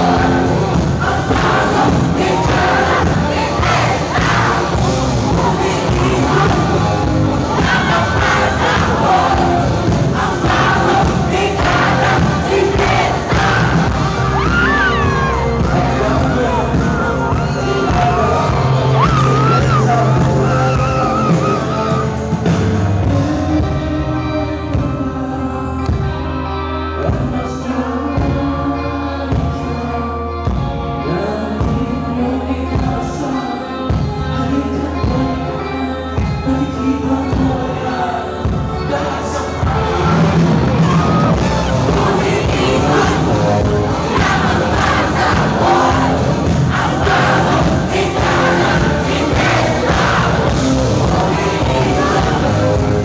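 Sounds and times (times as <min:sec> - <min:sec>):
lead vocal singing: 0:00.0 - 0:53.0
live rock band playing: 0:00.0 - 0:53.0.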